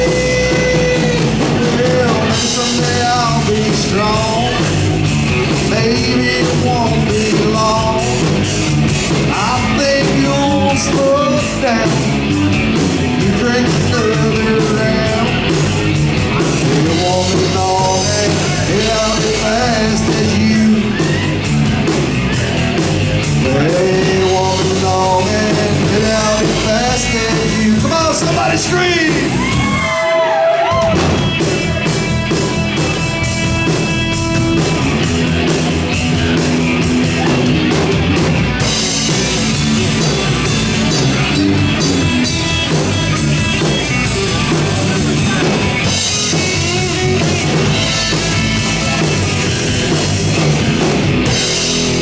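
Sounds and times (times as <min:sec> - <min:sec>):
drum kit: 0:00.0 - 0:52.0
electric bass: 0:00.0 - 0:52.0
electric guitar: 0:00.0 - 0:52.0.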